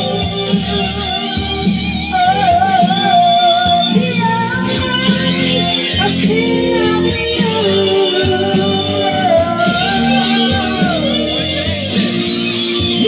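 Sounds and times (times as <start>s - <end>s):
guitar accompaniment: 0.0s - 13.0s
person singing: 0.0s - 13.0s.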